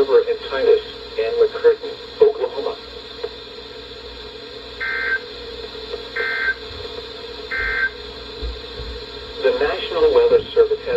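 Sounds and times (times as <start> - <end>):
steady radio hum: 0.0 - 10.9.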